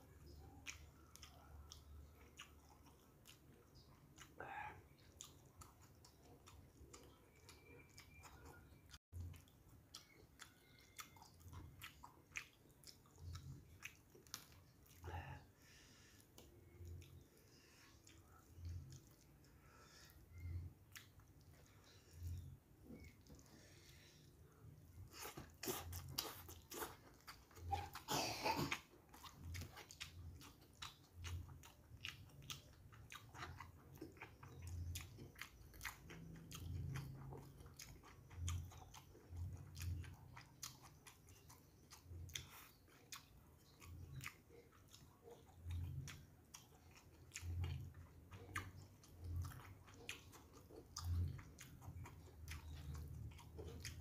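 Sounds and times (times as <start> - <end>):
man chewing with wet smacks: 0.0 - 54.0.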